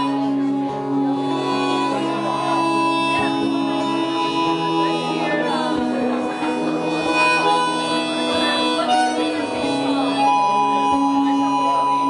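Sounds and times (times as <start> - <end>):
acoustic guitar with effects: 0.0 - 12.0
sustained held tones: 0.0 - 12.0.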